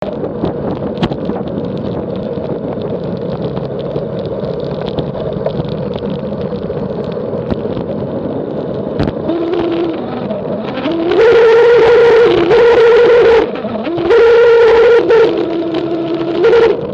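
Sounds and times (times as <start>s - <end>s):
faint humming tone: 0.0s - 16.9s
road rumble: 0.0s - 16.9s
wind: 0.0s - 16.9s.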